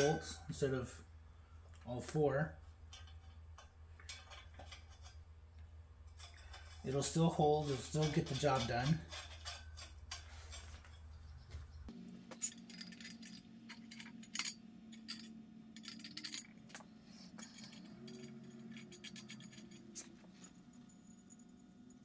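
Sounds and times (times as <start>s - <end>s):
low steady hum: 0.0s - 22.0s
metal bolts clinking: 2.6s - 22.0s.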